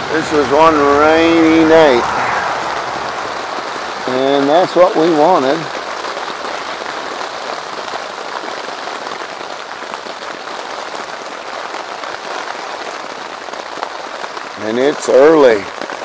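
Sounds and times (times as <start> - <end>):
rain pattering on a tent: 0.0 - 16.0.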